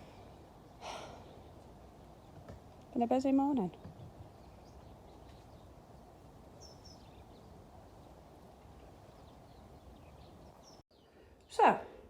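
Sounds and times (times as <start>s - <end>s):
faint outdoor hum: 0.0s - 12.0s.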